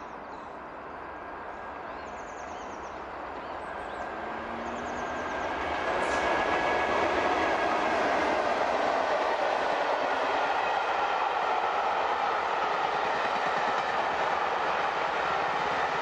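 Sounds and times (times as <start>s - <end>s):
train wheels rushing on rails: 1.1s - 16.0s.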